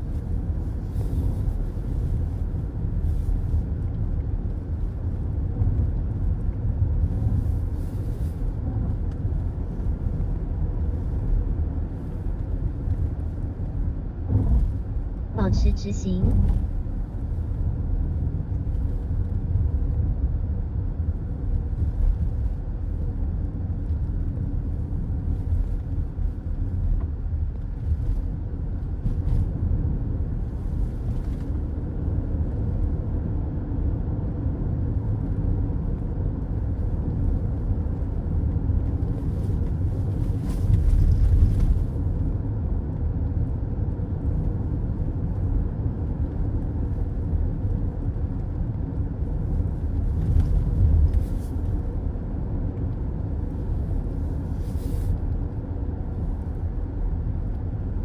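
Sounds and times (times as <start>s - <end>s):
car road noise inside cabin: 0.0s - 58.0s.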